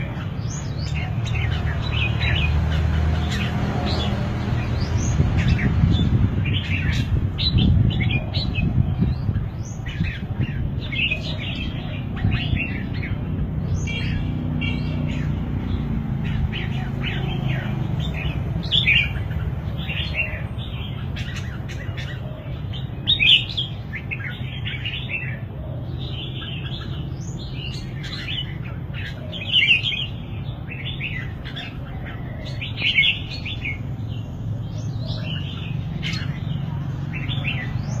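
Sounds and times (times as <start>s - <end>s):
bird warbling song: 0.0s - 38.0s.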